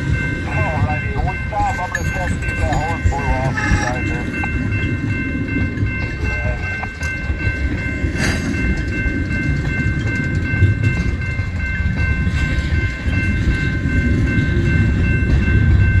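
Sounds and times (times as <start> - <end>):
freight train wheels rumbling on rail: 0.0 - 16.0
high ringing tones: 0.0 - 16.0.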